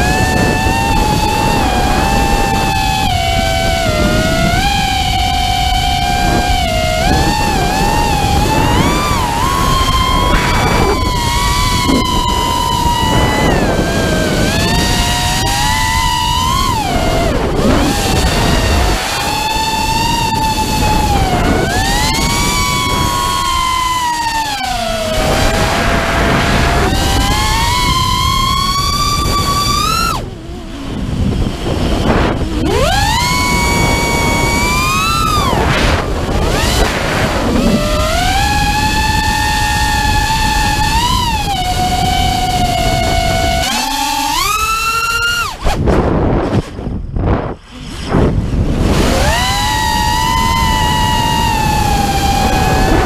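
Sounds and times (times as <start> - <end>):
quadcopter motors whining: 0.0 - 53.0
wind rushing over microphone: 0.0 - 53.0.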